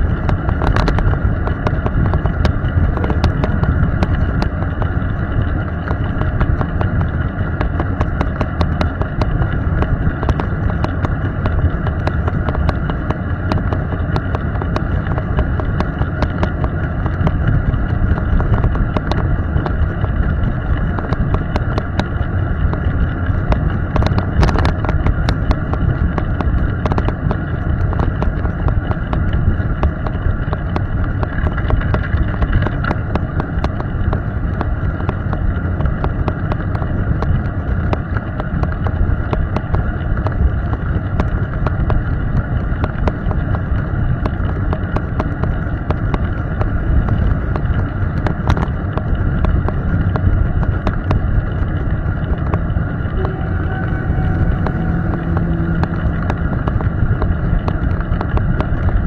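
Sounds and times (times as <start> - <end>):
light crackle of wet road: 0.0 - 59.0
tyre and wind rumble: 0.0 - 59.0.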